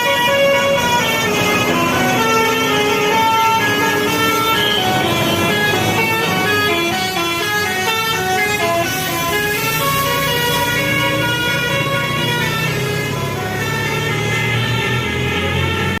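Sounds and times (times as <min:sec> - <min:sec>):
multi-tone bus horn melody: 0:00.0 - 0:16.0.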